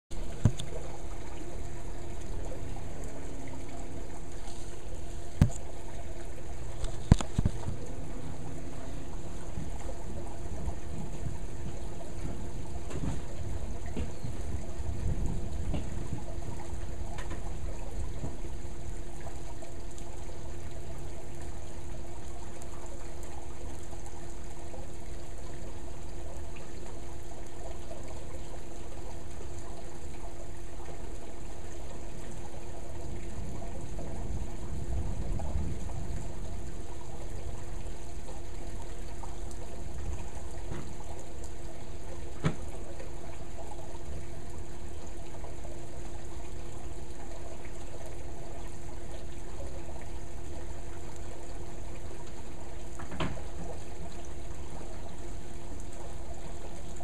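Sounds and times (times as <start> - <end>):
faint steady hum: 0.1 - 57.0
water splashing and trickling: 0.1 - 57.0.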